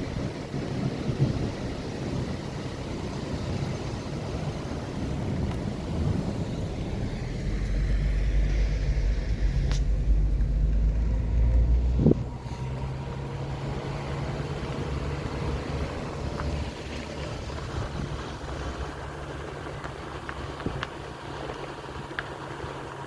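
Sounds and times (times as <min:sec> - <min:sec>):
engine and tyre rumble: 0:00.0 - 0:23.0.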